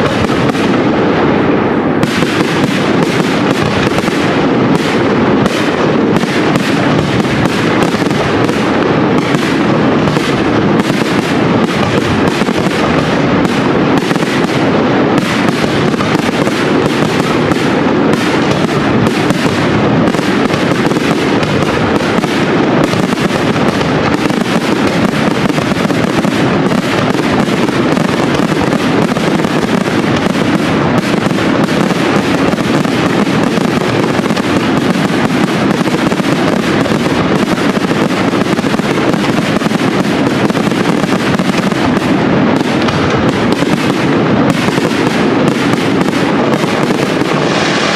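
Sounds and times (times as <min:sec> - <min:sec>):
fireworks bursting and crackling: 0:00.0 - 0:47.9.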